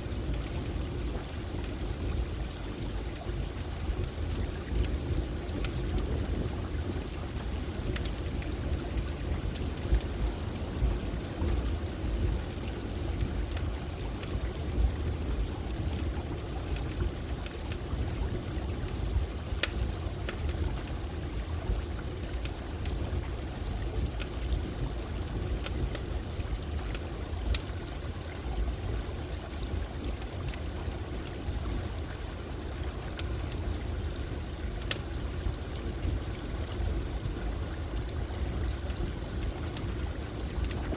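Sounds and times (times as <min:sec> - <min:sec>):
running water rushing: 0:00.0 - 0:40.9
campfire crackling and popping: 0:00.1 - 0:40.9.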